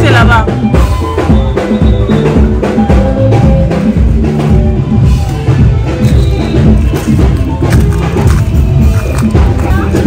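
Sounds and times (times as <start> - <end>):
loud music with heavy bass: 0.0 - 10.0.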